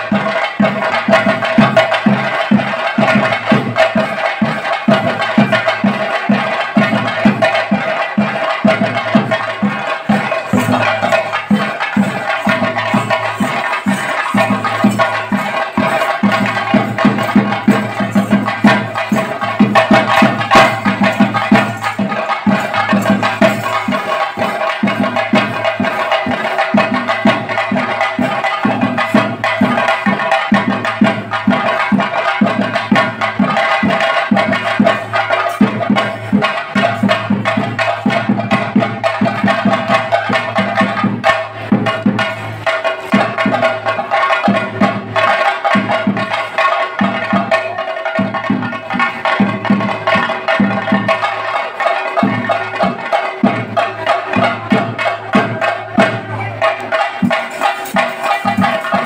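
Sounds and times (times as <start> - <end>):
drums beaten in fast rolls: 0.0 - 59.0.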